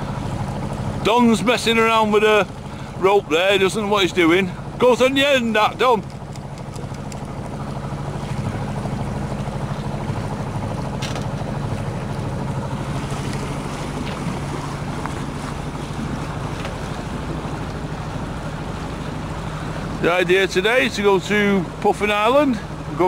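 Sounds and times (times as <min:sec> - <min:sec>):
boat engine droning: 0:00.0 - 0:23.0
water noise: 0:00.0 - 0:23.0
wind: 0:00.0 - 0:23.0.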